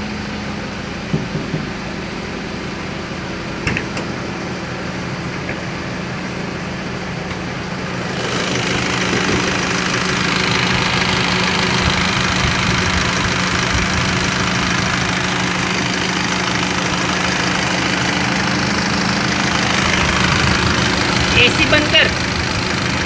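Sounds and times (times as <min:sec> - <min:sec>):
engine idling: 0:00.0 - 0:23.0
car air conditioning running: 0:00.8 - 0:23.0.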